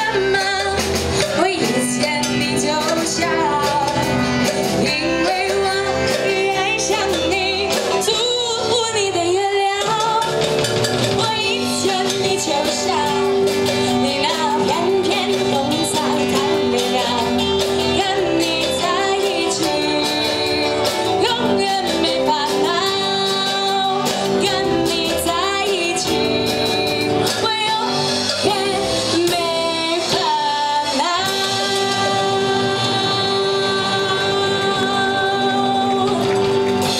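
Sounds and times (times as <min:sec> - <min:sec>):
bass guitar: 0:00.0 - 0:36.9
drums: 0:00.0 - 0:36.9
electric guitar: 0:00.0 - 0:36.9
woman singing: 0:00.0 - 0:36.9.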